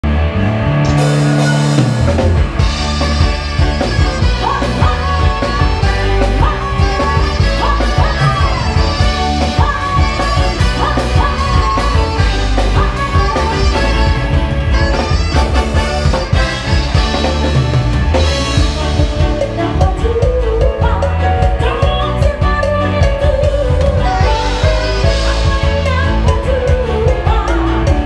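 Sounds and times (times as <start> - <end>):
bass guitar: 0.0 - 28.0
electric guitars: 0.0 - 28.0
gliding lead melody: 0.0 - 28.0
drum kit beat: 0.8 - 28.0.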